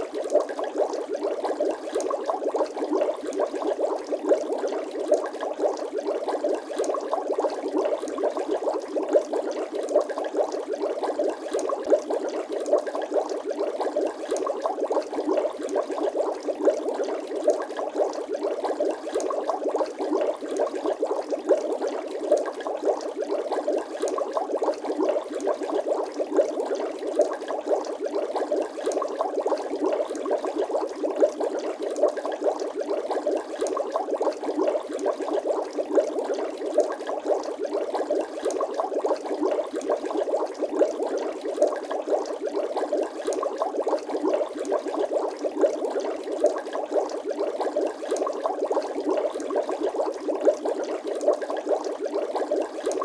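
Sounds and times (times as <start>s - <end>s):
bubbling pops: 0.0s - 53.0s.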